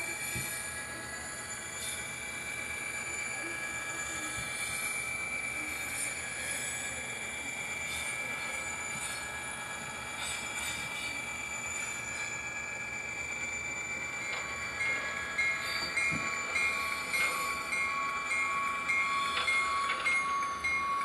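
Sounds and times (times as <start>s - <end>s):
model train rolling with whine: 0.0s - 21.0s.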